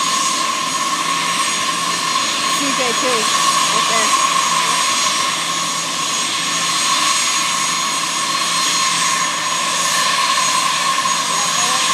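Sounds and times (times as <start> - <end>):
jet engines idling: 0.0 - 11.9.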